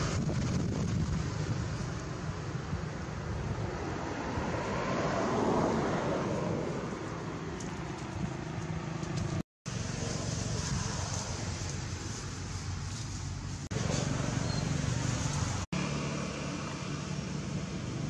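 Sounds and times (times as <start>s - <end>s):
road traffic noise: 0.0s - 18.0s
vehicle passing by: 0.0s - 18.0s.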